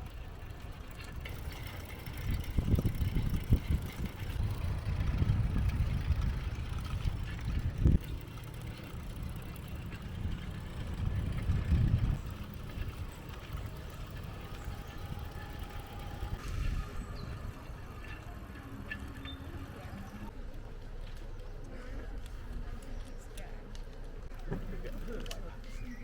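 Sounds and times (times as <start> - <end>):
road vehicle rumble: 0.0 - 26.0.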